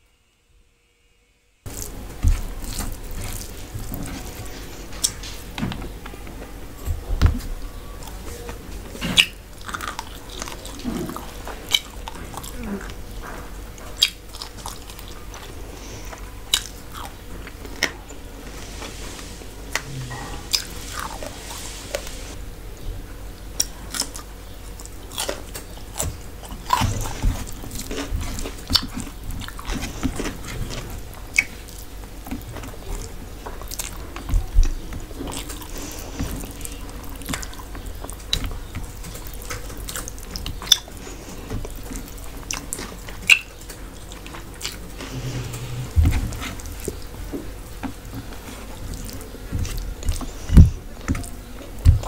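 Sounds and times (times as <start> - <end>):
person chewing and crunching food: 1.7 - 22.4, 23.6 - 52.0.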